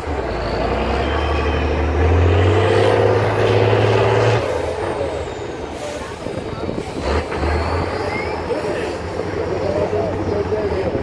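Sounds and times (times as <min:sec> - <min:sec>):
diesel truck engine working hard: 0:00.0 - 0:11.0.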